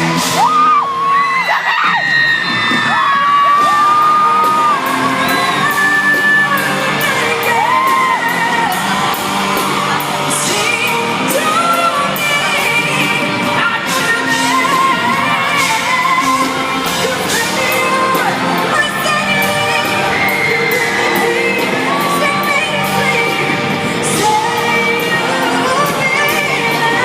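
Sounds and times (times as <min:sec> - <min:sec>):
live pop ballad: 0:00.0 - 0:27.0.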